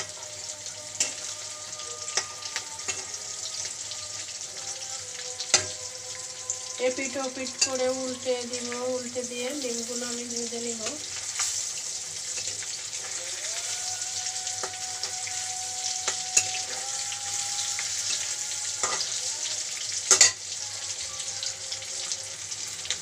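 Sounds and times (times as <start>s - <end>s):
egg sizzling in hot oil: 0.0s - 23.0s.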